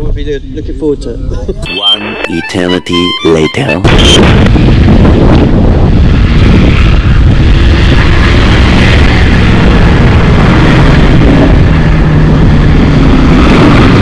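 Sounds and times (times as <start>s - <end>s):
engines rumbling: 0.0s - 14.0s.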